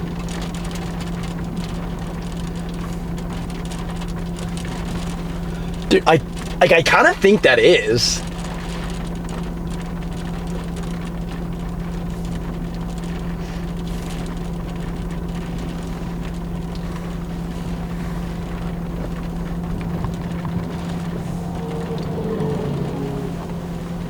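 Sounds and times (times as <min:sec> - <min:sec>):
car road and engine drone: 0:00.0 - 0:24.0.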